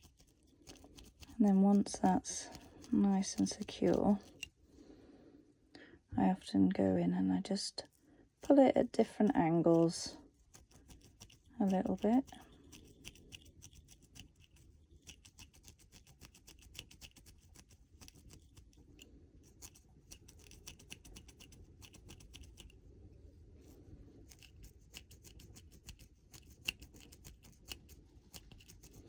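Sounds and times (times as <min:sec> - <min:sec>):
crackling clicks of hair being worked: 0:00.0 - 0:04.6, 0:09.7 - 0:29.0.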